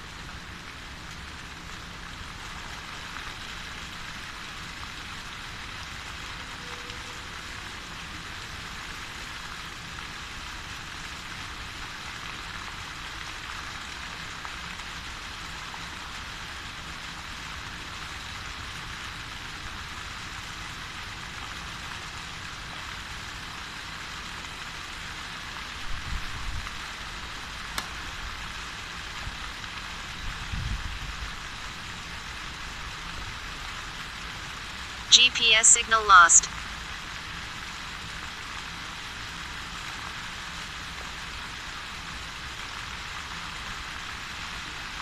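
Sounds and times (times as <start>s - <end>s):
fountain water jets splashing: 0.0s - 35.1s, 36.0s - 45.0s.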